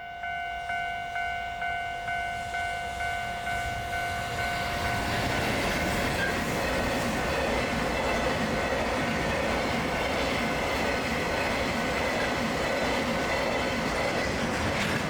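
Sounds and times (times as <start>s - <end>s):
level-crossing warning bell: 0.0s - 14.2s
freight train rumble: 0.0s - 15.0s.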